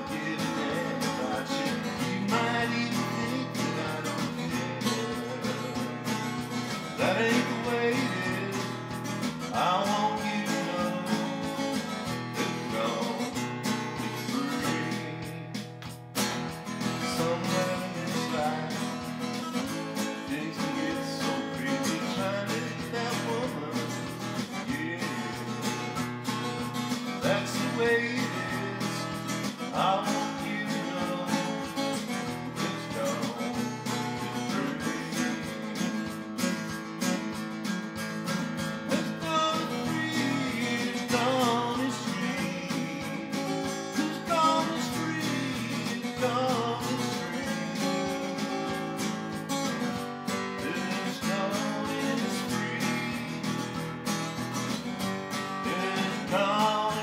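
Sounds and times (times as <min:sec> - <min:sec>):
man singing: 0:00.0 - 0:15.6, 0:16.6 - 0:37.3, 0:38.2 - 0:57.0
guitar strumming: 0:00.0 - 0:57.0.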